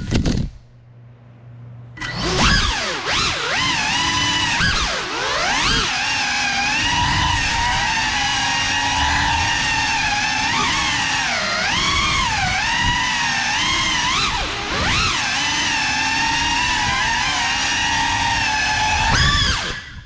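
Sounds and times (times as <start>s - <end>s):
drone motors whining: 1.9s - 20.0s.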